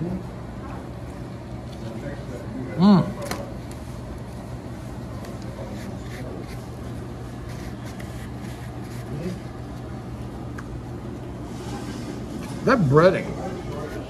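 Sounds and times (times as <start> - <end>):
faint murmur of voices: 0.0 - 10.2, 11.3 - 14.0.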